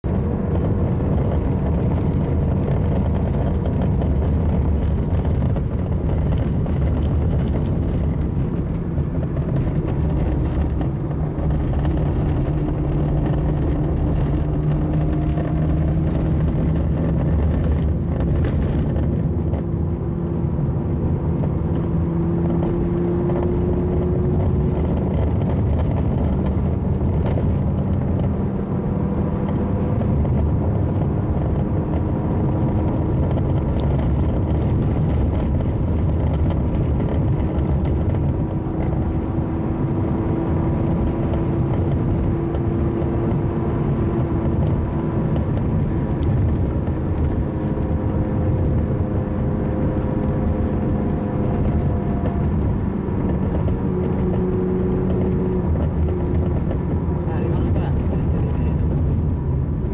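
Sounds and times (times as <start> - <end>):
car engine and tyre hum: 0.0 - 59.9.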